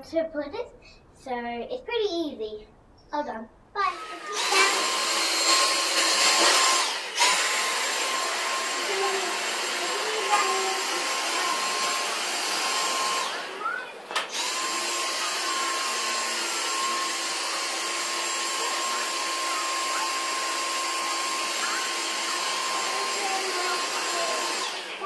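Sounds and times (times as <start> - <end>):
cordless vacuum running: 3.8 - 25.0.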